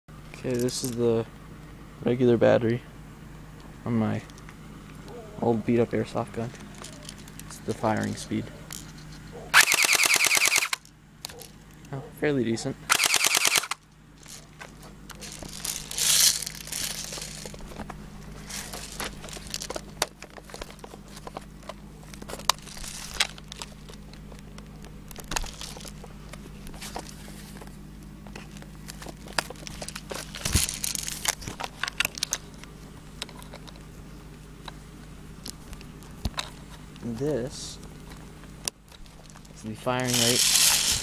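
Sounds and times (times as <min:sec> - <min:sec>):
steady low hum: 0:00.1 - 0:41.0.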